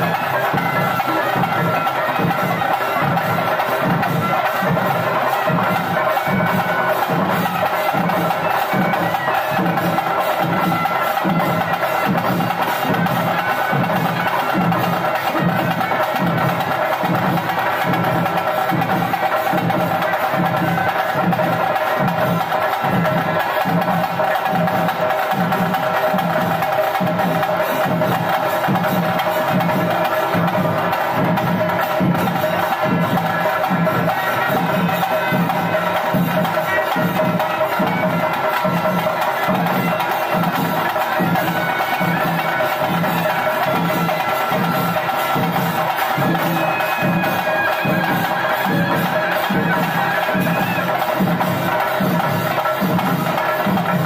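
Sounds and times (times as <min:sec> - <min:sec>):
drums steady beat: 0:00.0 - 0:54.0.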